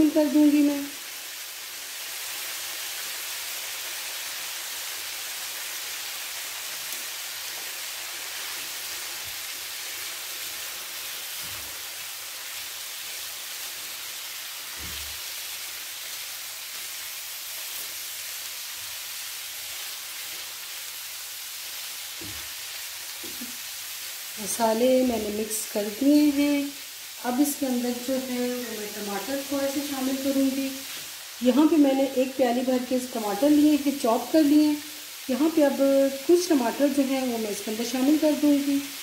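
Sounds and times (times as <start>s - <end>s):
chicken sizzling in frying pan: 0.0s - 39.0s.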